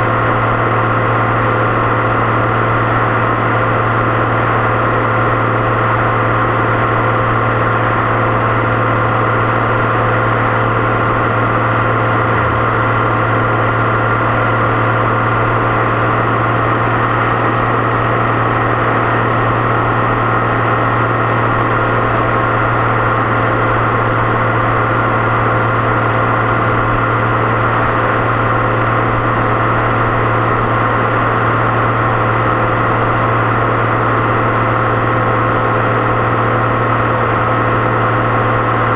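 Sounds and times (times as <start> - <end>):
high turbo whine: 0.0 - 38.9
tractor diesel engine running: 0.0 - 38.9.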